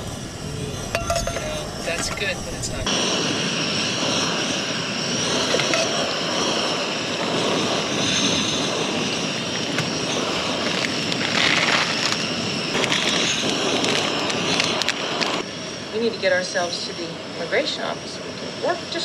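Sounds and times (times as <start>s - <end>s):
gas stove hissing: 0.0s - 19.0s.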